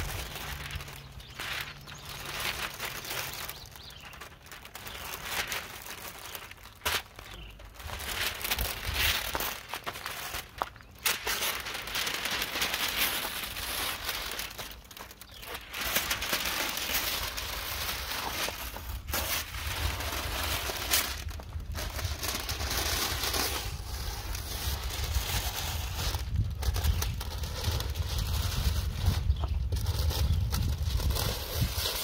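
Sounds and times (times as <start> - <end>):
masking tape peeling off: 0.0 - 32.0
paper crinkling: 0.0 - 32.0.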